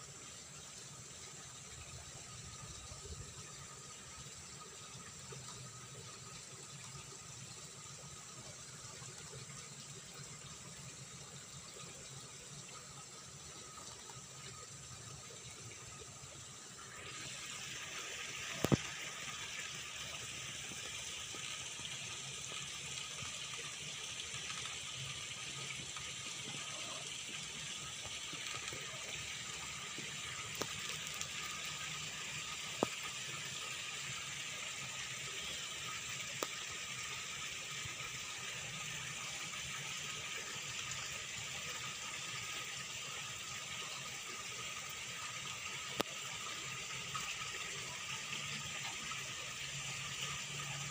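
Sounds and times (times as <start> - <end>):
water rushing into pond: 0.0 - 50.9.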